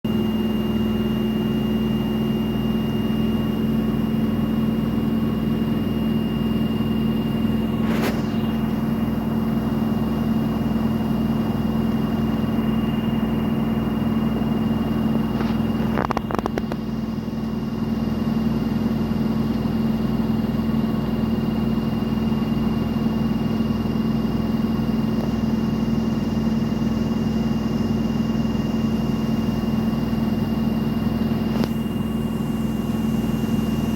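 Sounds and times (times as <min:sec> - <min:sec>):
washing machine spinning: 0:00.1 - 0:33.9.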